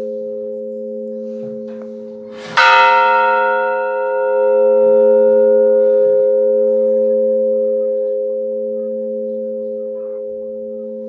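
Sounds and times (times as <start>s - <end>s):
church bell ringing on: 0.0s - 11.0s.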